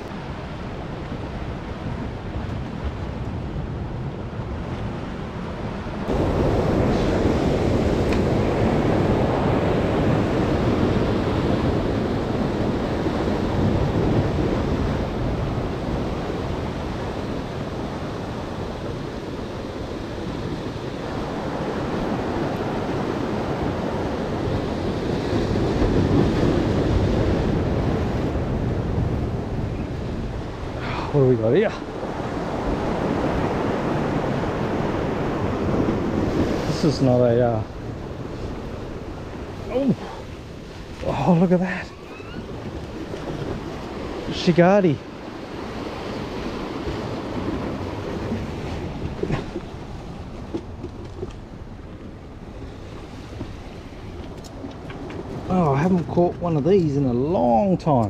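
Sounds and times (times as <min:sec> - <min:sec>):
ocean surf washing against rocks: 0:00.0 - 0:58.0
wind buffeting microphone: 0:00.0 - 0:58.0.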